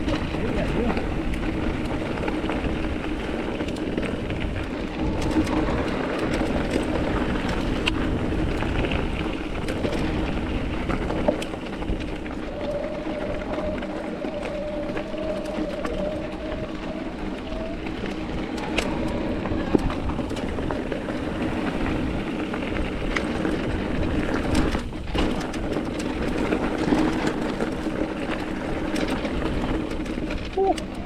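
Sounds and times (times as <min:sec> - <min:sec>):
bike rattle: 0:00.0 - 0:31.0.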